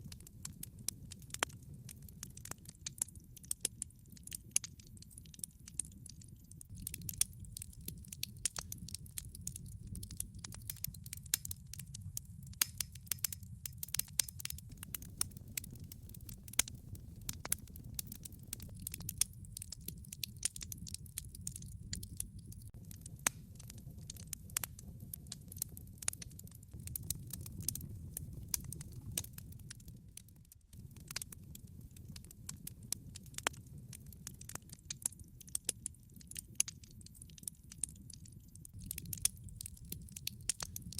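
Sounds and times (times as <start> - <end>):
burning wood crackling and popping: 0.0 - 40.9
low rumble of flames: 0.0 - 40.9.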